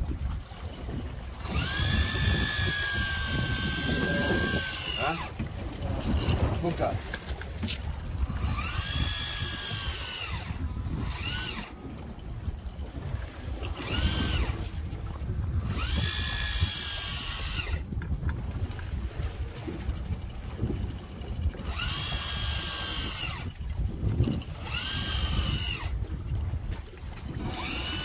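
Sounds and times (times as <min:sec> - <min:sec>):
wind and sea rumble: 0:00.0 - 0:28.0
fishing reel motor whine: 0:00.7 - 0:06.8, 0:07.9 - 0:26.4, 0:27.1 - 0:28.0.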